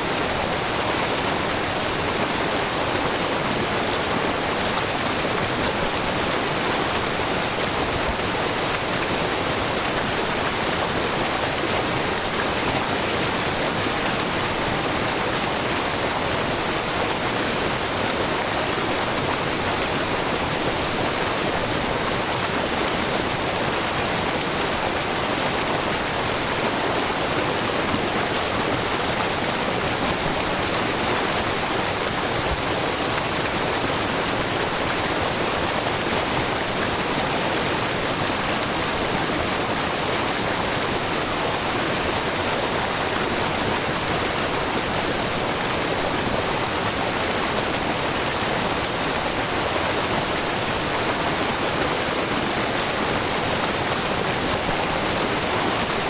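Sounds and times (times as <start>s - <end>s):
waterfall splashing on rock: 0.0s - 56.0s.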